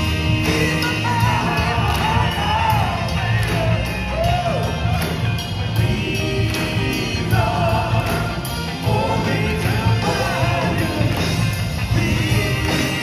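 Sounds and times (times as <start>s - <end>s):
heavy bass: 0.0s - 13.0s
live band music: 0.0s - 13.0s.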